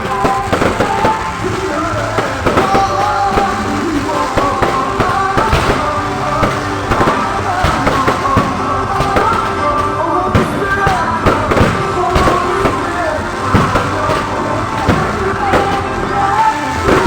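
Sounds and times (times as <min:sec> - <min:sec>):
fireworks bursting and crackling: 0:00.0 - 0:17.0
loud music: 0:00.0 - 0:17.0.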